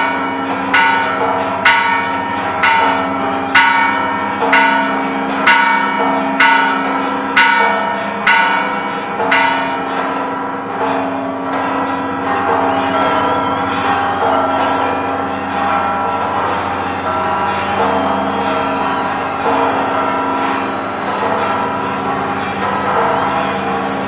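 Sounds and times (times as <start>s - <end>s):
bronze bell ringing: 0.0s - 24.0s.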